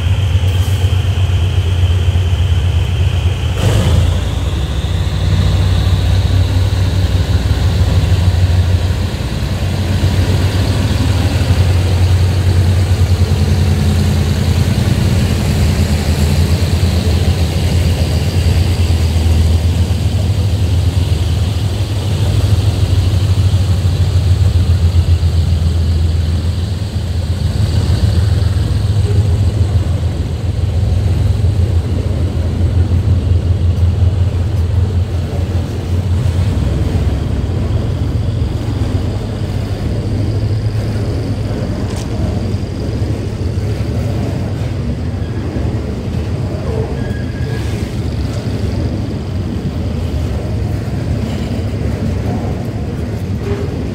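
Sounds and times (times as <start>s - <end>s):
freight train rolling past: 0.0s - 53.9s.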